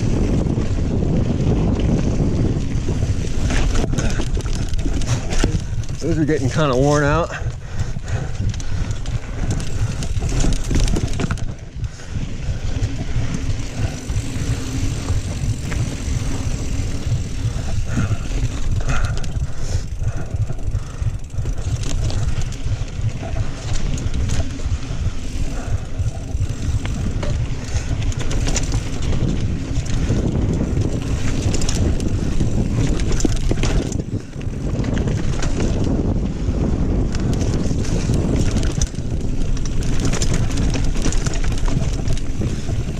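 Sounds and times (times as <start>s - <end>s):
bike rattling over rough ground: 0.0s - 42.9s
tyre and wind noise: 0.0s - 42.9s.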